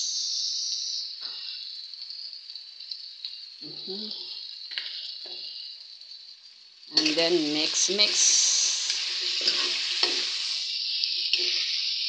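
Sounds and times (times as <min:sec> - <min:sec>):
food frying in a wok: 0:00.0 - 0:12.0.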